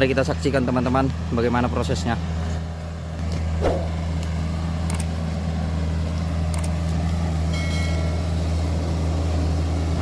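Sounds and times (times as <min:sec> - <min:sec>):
excavator diesel engine humming: 0:00.0 - 0:10.0.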